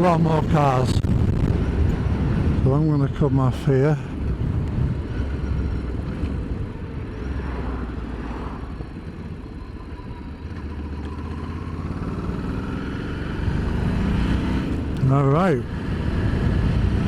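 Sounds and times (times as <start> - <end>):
motorcycle engine rumble: 0.0 - 17.0.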